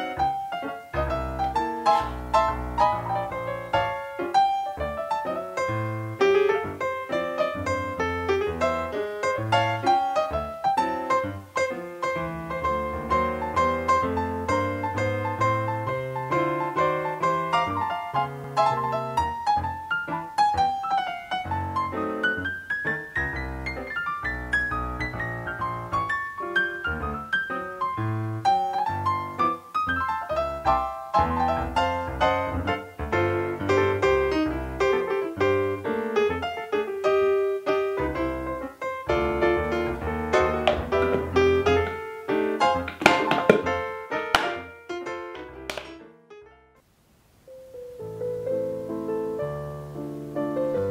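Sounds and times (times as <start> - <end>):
piano music: 0.0 - 46.8, 47.5 - 50.9.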